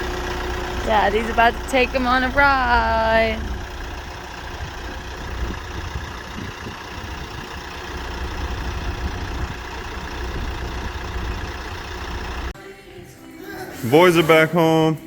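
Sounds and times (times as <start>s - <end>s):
tractor engine running: 0.0s - 12.6s.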